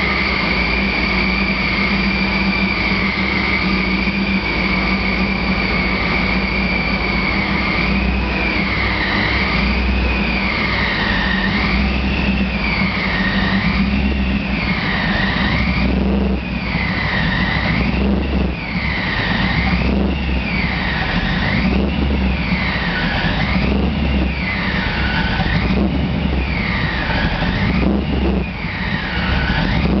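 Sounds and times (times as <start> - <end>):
car engine revving: 0.0 - 30.0
supercharger whine: 0.0 - 30.0.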